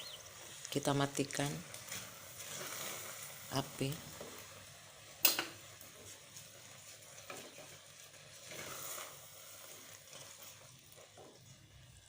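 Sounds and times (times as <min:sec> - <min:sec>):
faint sizzling in a pan: 0:00.0 - 0:12.0.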